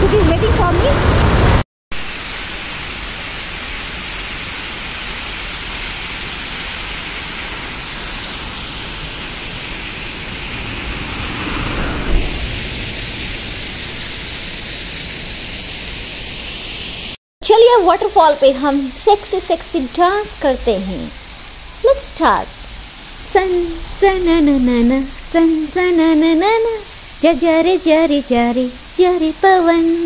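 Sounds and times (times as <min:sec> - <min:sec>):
rushing water: 0:01.0 - 0:16.4, 0:17.8 - 0:30.0.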